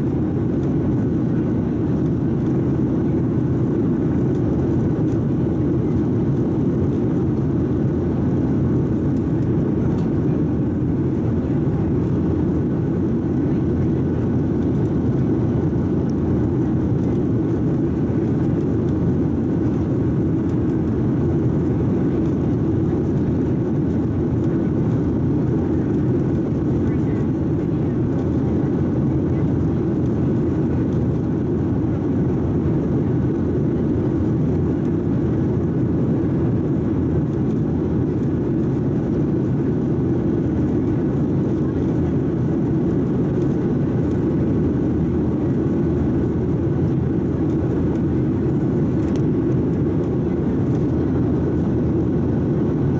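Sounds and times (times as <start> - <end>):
airplane cabin rumble: 0.0 - 52.9.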